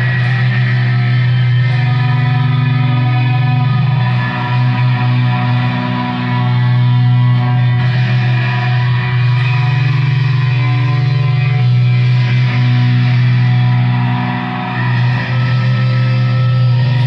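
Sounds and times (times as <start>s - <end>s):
distorted electric guitar drone: 0.0s - 17.0s.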